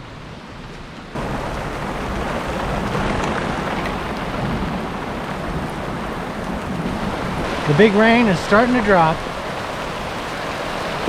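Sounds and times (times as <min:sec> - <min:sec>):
heavy rain downpour: 0:00.0 - 0:11.0.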